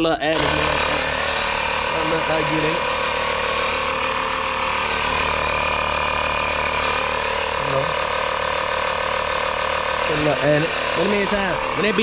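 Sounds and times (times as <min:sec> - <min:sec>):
small air compressor running: 0:00.2 - 0:12.0.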